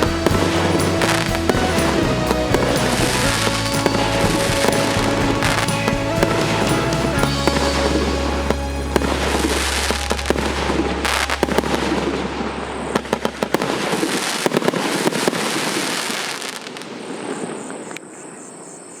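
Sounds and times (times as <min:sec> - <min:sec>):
firework bangs: 0:00.0 - 0:17.8
firework crackling: 0:00.0 - 0:17.8.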